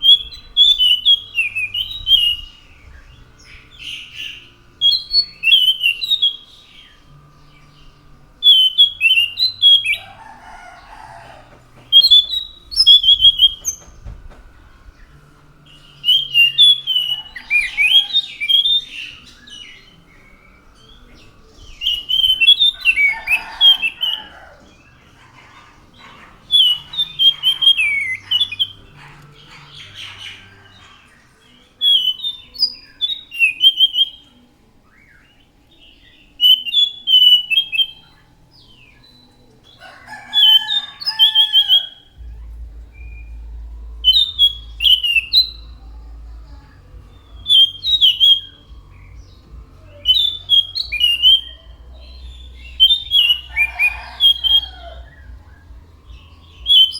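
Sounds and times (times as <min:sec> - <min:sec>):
thrush singing warbled phrases: 0:00.0 - 0:34.4, 0:39.8 - 0:56.9.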